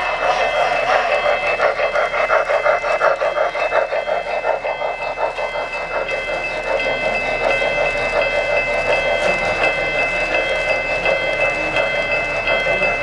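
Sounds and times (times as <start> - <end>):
model train running: 0.0 - 13.0
regular track clicking: 0.0 - 13.0.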